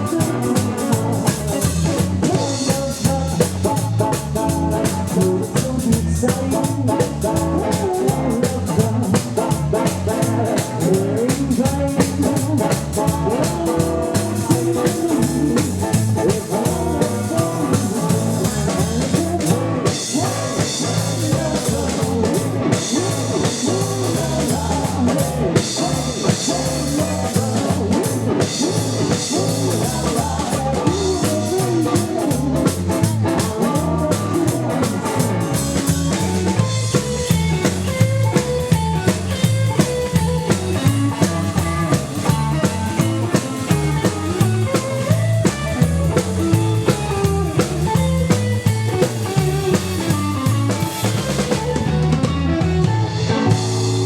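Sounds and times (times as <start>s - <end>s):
rockabilly band playing: 0.0s - 54.0s.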